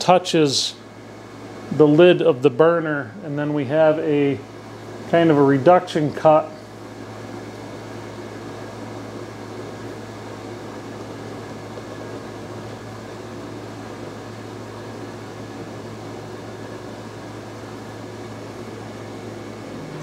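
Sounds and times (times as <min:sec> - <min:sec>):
fan motor whirring: 0:00.0 - 0:20.0.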